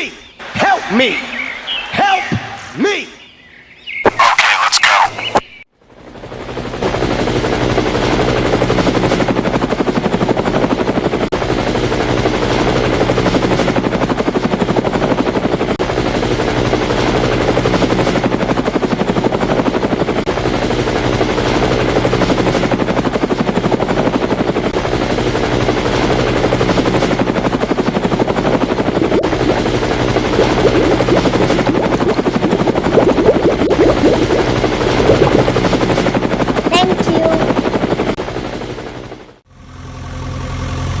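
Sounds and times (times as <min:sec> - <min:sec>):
helicopter rotor chopping: 0:04.1 - 0:39.4.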